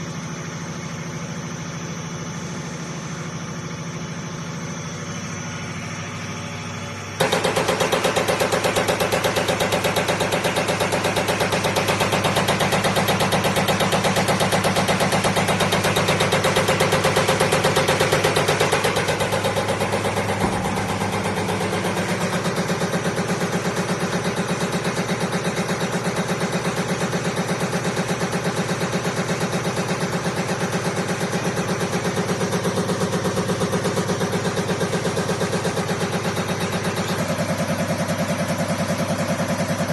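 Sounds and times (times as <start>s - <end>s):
test bench motor pulsing: 0.0s - 39.9s.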